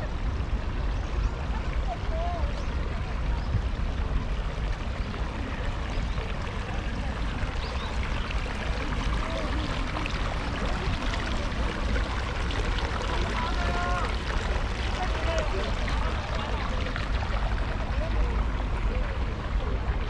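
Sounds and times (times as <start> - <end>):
faint voices: 0.0 - 20.0.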